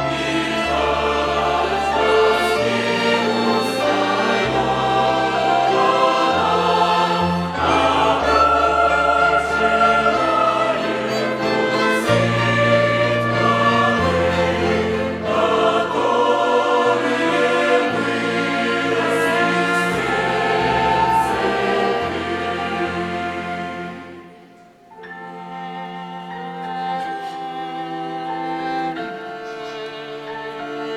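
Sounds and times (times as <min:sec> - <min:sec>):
choir singing a hymn: 0:00.0 - 0:30.9
violin orchestra: 0:00.0 - 0:30.9.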